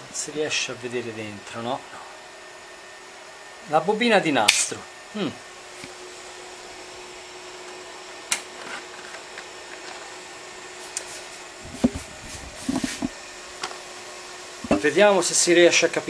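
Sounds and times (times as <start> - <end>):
tape drive humming: 0.0 - 16.0.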